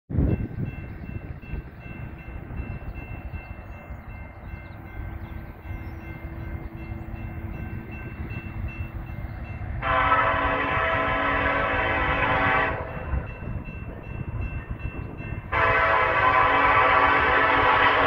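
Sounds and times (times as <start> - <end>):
distant freight train rumble: 0.1 - 18.0.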